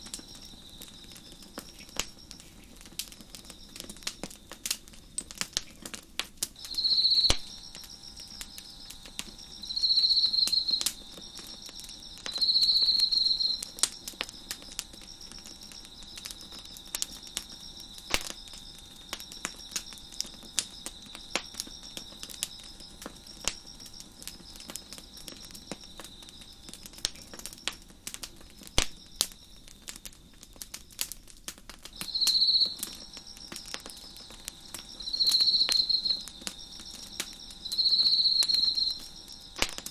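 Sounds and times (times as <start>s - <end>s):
crickets chirping: 0.0s - 39.9s
faint cricket trill: 0.0s - 39.9s
wood fire crackling: 0.0s - 39.9s.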